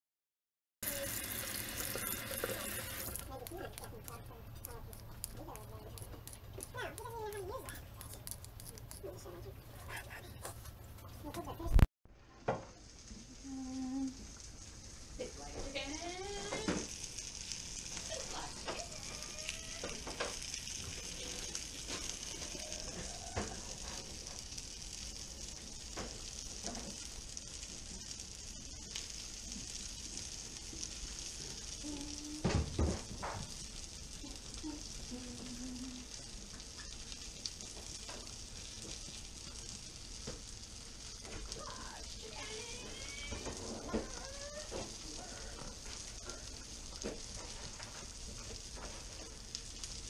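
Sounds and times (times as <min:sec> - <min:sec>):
fish fillets sizzling in a pan: 0:00.8 - 0:09.4, 0:12.5 - 0:50.0.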